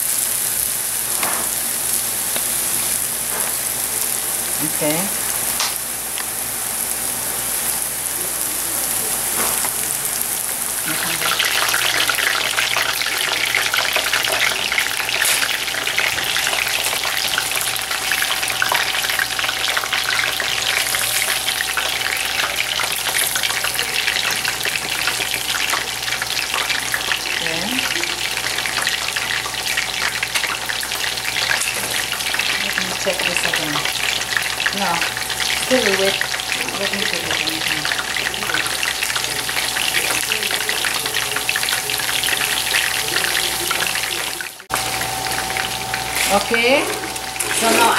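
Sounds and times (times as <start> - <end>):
tortilla pieces deep-frying in oil: 7.4 - 47.9.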